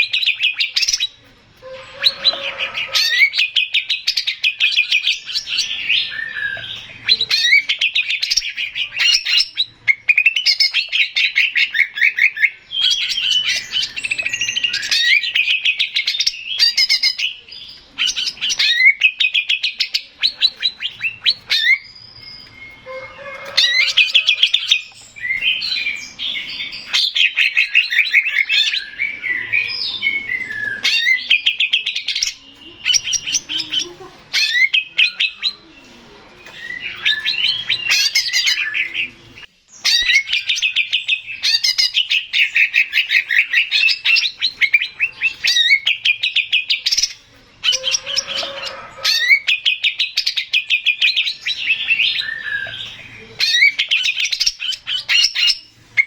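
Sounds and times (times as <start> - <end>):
bird singing fast chatter: 0.0 - 56.0.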